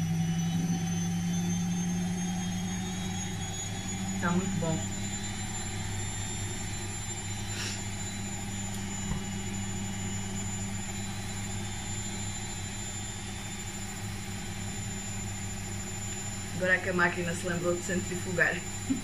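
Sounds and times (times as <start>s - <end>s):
washing machine spin cycle hum: 0.0s - 19.0s.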